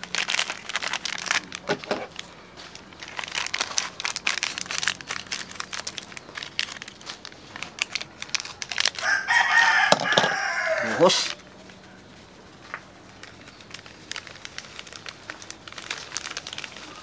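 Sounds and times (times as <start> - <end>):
sachets crinkling: 0.0 - 17.0.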